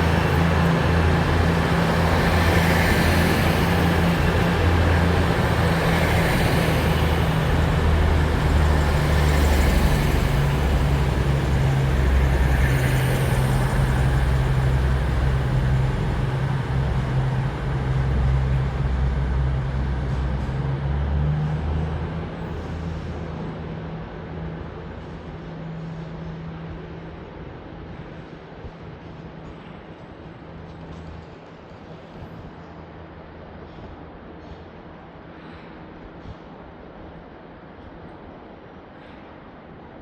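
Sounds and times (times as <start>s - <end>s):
diesel train engines droning: 0.0s - 35.3s.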